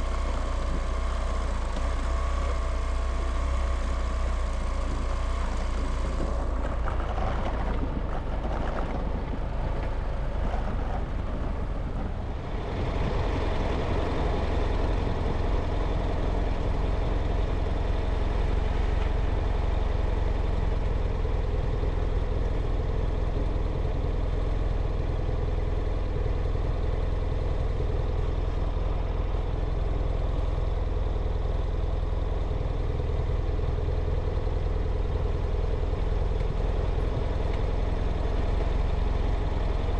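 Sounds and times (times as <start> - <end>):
road and wind noise: 0.0 - 39.9
vehicle engine running: 0.0 - 39.9.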